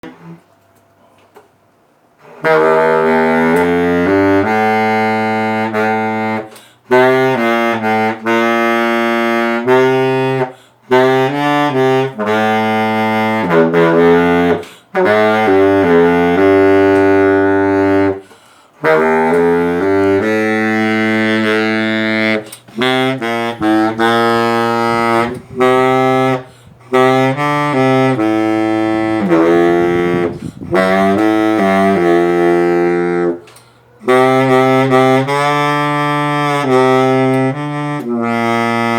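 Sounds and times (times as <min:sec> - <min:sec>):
baritone saxophone melody: 0:02.2 - 0:38.9.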